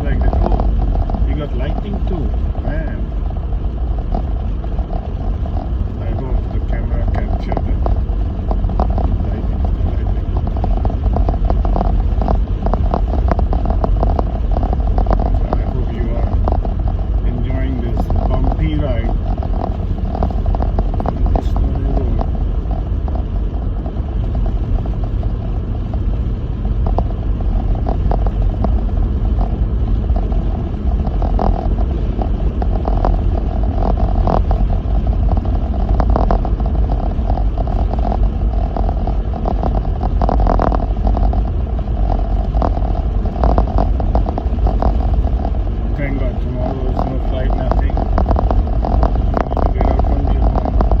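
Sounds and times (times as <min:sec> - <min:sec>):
knocks and rattles over bumps: 0:00.0 - 0:51.0
tyres and engine rumbling: 0:00.0 - 0:51.0.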